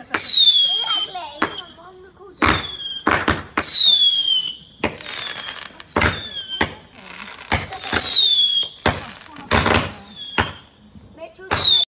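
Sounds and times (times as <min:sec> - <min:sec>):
fireworks bangs: 0:00.0 - 0:10.8, 0:11.4 - 0:11.9
faint fireworks whistling: 0:00.0 - 0:11.9
loud whistling firework shot: 0:00.2 - 0:01.8, 0:02.4 - 0:10.7.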